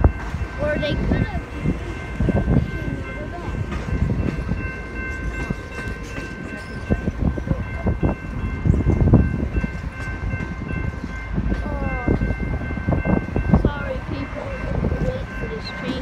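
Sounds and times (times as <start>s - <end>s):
train wheels rumbling: 0.0s - 16.0s
wheels clacking over crossing: 0.0s - 16.0s.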